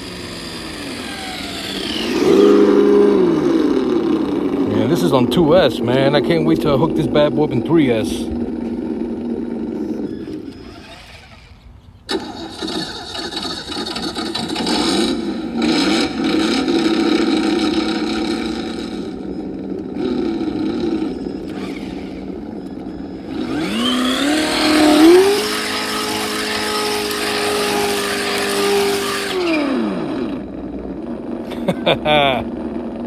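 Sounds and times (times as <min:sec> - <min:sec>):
simulated engine sound from speaker: 0:00.0 - 0:33.0.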